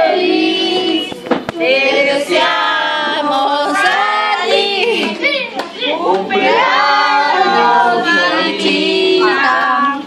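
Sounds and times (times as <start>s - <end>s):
group singing a birthday song: 0.0s - 10.0s.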